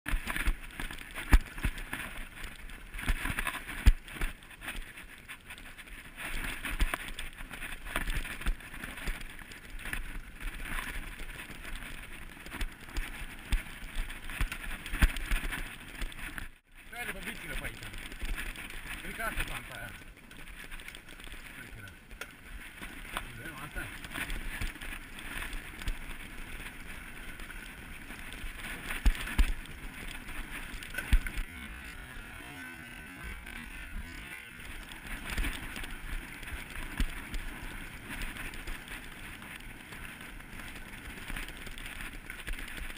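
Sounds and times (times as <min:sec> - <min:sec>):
bike drivetrain clicks and knocks: 0:00.1 - 0:31.7, 0:33.4 - 0:42.9
bike chain crackling: 0:00.1 - 0:42.9.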